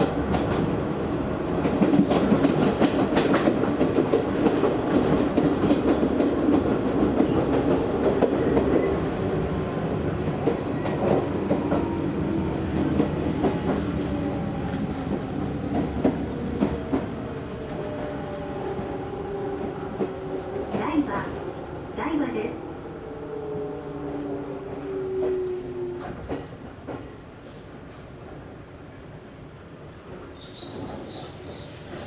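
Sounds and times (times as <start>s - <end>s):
train rumble: 0.0s - 32.0s.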